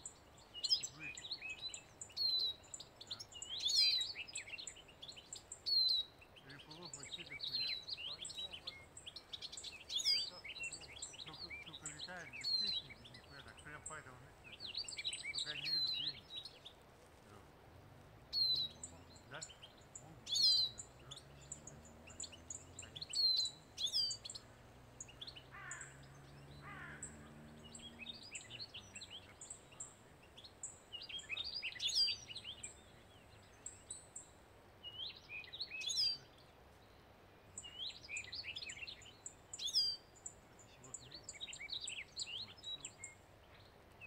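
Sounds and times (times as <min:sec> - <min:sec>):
finches chirping: 0:00.0 - 0:44.0.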